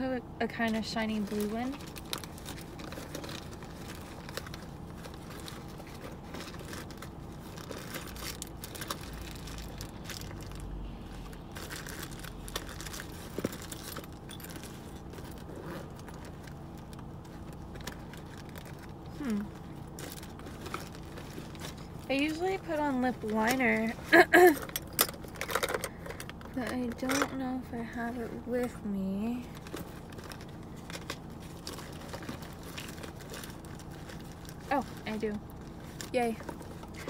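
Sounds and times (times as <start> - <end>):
rummaging through makeup bag: 0.6 - 37.0.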